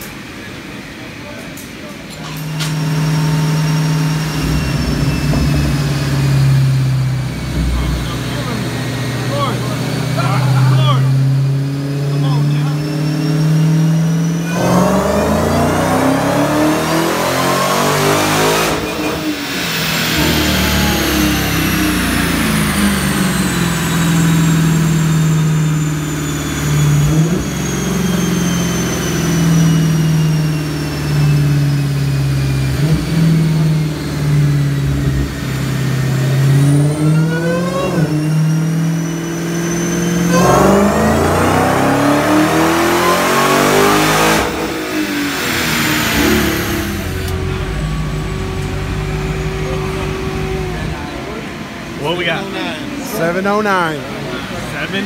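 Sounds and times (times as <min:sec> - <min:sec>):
high supercharger whine: 0:00.0 - 0:55.0
car engine revving: 0:02.2 - 0:55.0.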